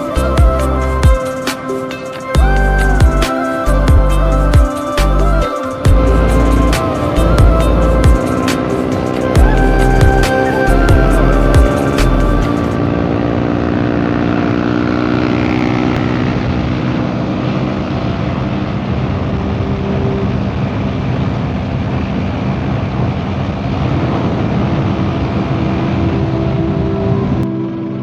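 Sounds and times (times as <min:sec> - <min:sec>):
motorcycle engine cruising: 0:00.0 - 0:28.0
rushing wind and road noise: 0:00.0 - 0:28.0.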